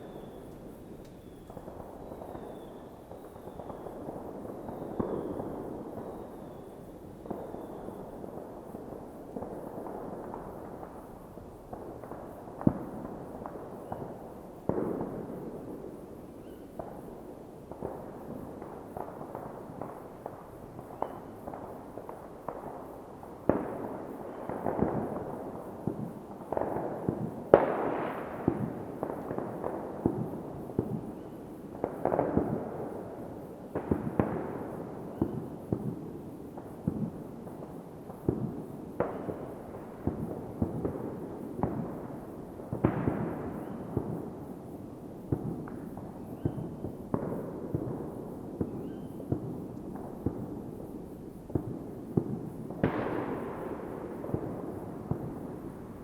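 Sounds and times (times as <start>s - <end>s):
distant firework bursts: 0.0s - 56.0s
fireworks bangs and crackles: 0.0s - 56.0s.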